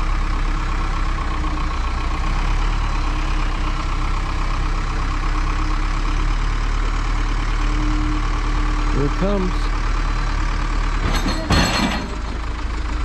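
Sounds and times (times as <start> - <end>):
forklift engine idling: 0.0 - 13.0.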